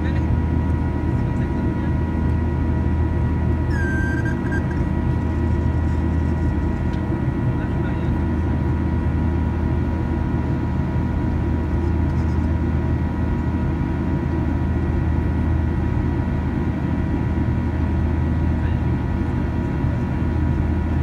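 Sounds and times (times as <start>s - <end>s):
airplane cabin rumble: 0.0s - 21.0s
turbofan engine tones: 0.0s - 21.0s.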